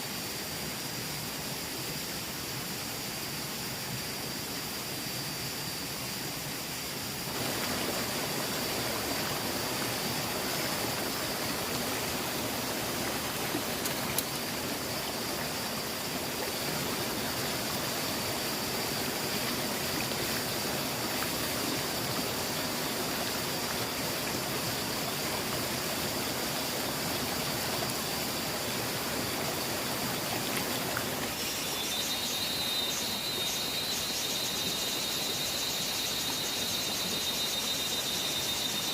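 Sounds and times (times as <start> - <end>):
flowing water rushing: 6.3 - 38.9.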